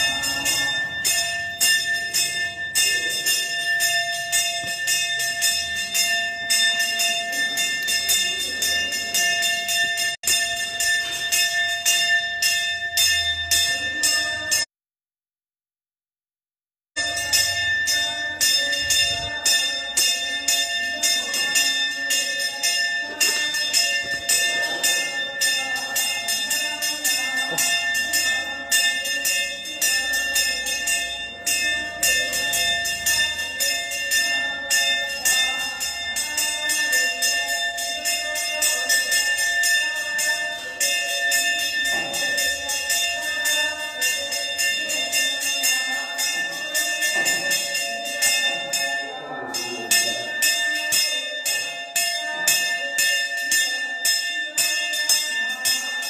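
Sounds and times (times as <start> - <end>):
temple bell ringing rapidly: 0.0 - 14.7, 17.0 - 56.0.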